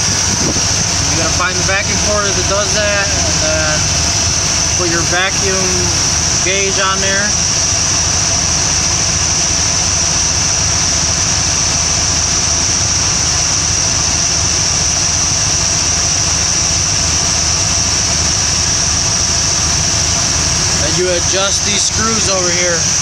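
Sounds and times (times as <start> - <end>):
engine idling rumble: 0.0 - 23.0
high-pitched engine whine: 0.0 - 23.0.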